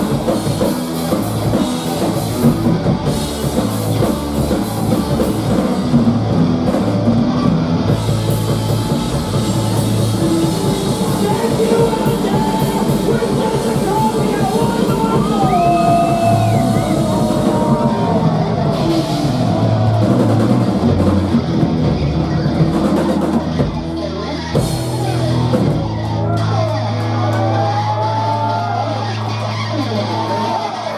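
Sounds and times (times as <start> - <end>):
drum kit with cymbals: 0.0 - 26.6
electric bass: 0.0 - 30.9
electric guitar: 0.0 - 30.9
rock band playing: 0.0 - 30.9.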